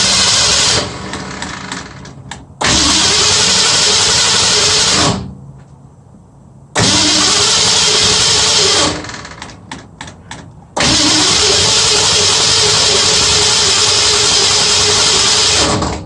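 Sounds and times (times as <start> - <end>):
car starter cranking: 0.0 - 5.3, 6.8 - 10.0, 10.8 - 16.0.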